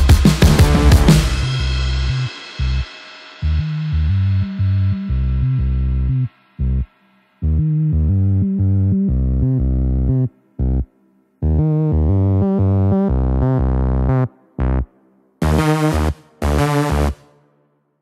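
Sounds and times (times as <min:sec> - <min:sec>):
chords over deep bass: 0:00.0 - 0:17.2.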